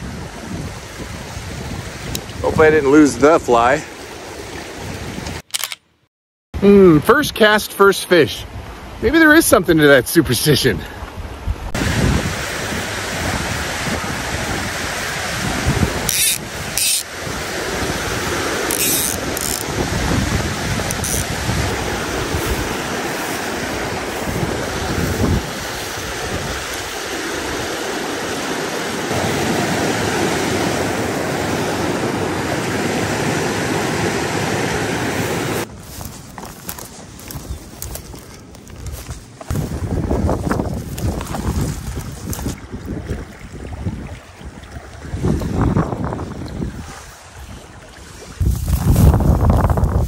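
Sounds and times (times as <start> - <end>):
creek water rushing: 0.0 - 5.2, 6.7 - 37.9, 39.0 - 50.0
wind rumbling on microphone: 0.0 - 5.4, 10.8 - 50.0.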